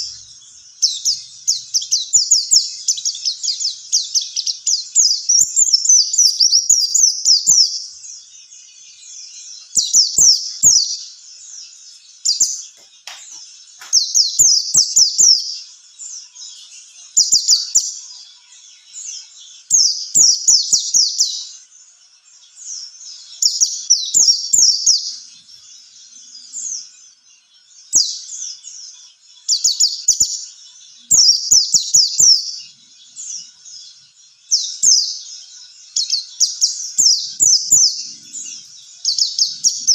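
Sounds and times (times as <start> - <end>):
bird twittering: 0.0 - 21.7, 22.4 - 27.2, 27.8 - 39.9.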